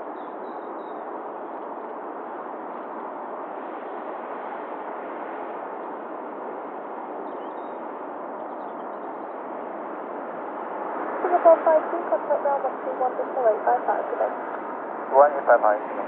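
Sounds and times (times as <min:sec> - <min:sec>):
distant jet engines rushing: 0:00.0 - 0:16.0.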